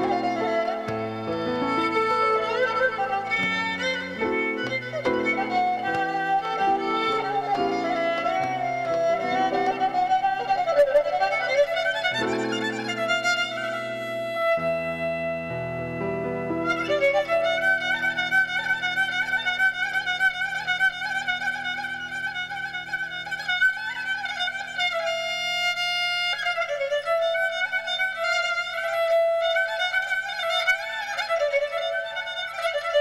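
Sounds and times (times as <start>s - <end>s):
bowed fiddle melody: 0.0s - 33.0s.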